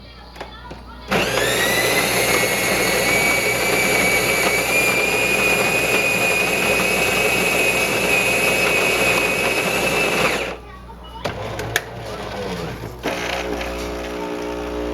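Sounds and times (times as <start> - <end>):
coffee grinder grinding beans: 1.1 - 10.6, 11.7 - 14.9.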